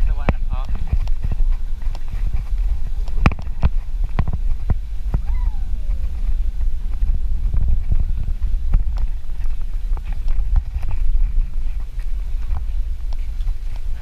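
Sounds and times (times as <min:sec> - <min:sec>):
bike rattling over bumps: 0:00.0 - 0:14.0
wind and road rumble: 0:00.0 - 0:14.0.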